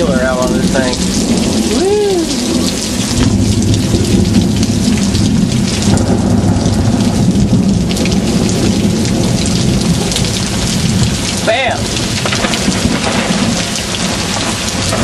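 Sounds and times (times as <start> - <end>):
heavy rain pouring: 0.0 - 15.0
low rumble of thunder: 0.0 - 15.0.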